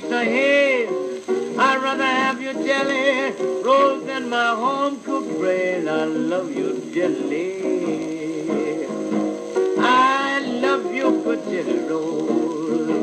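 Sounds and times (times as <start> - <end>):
blues guitar solo: 0.0 - 13.0.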